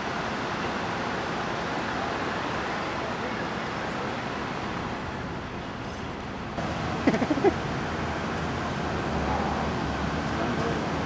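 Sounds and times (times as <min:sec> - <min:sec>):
vehicle road noise: 0:00.0 - 0:11.0.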